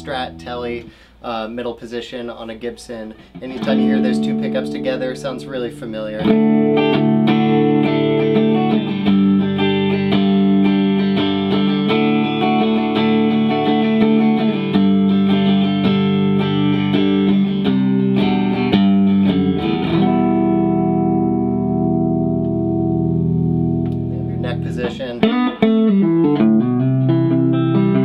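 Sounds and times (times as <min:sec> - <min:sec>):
electric guitar chords and notes: 0:03.2 - 0:28.0.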